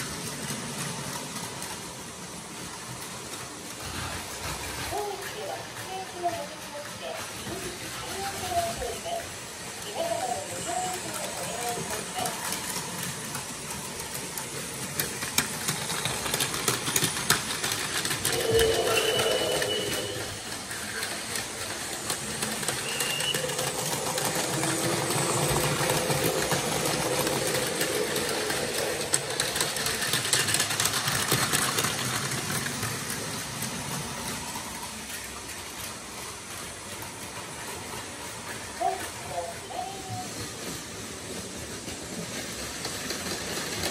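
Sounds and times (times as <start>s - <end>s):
toy train motors whirring: 0.0s - 43.9s
wheels clicking rapidly: 0.0s - 43.9s.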